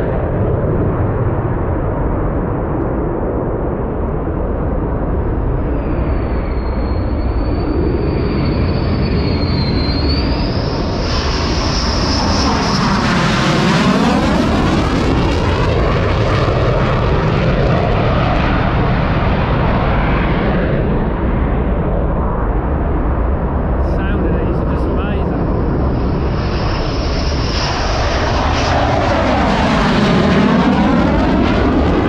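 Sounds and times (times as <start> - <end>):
fighter jet passing by: 0.0 - 32.0.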